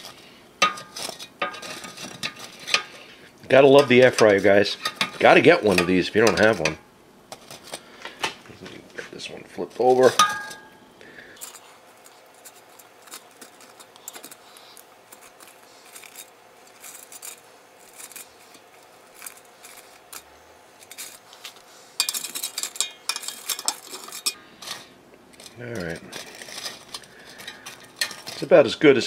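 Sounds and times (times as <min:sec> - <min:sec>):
metal tongs scraping basket: 0:00.0 - 0:08.2, 0:09.2 - 0:29.0
faint steady hum: 0:00.0 - 0:29.0.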